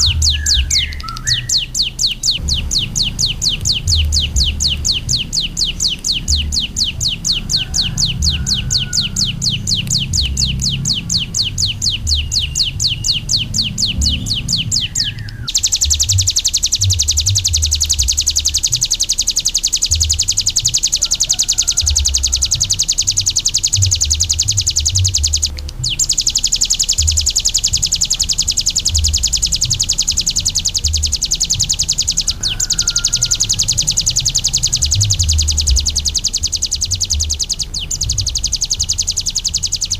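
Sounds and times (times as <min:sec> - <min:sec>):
bird trilling: 0:00.0 - 0:39.9.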